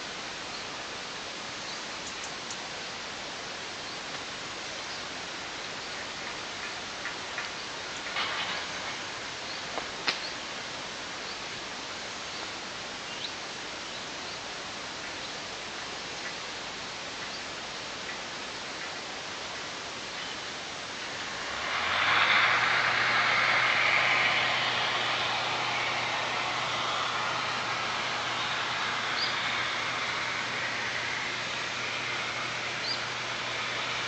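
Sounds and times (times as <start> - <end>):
outdoor hiss: 0.0 - 34.0.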